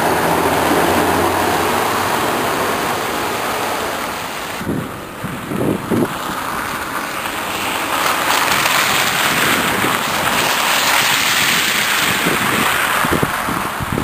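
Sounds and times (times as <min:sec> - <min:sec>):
car tyres hissing through slush: 0:00.0 - 0:14.0
wind buffeting microphone: 0:00.0 - 0:14.0.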